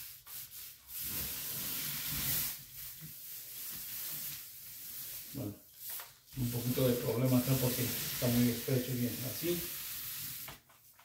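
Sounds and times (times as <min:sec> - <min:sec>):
paint roller hissing on wall: 0:00.0 - 0:11.0.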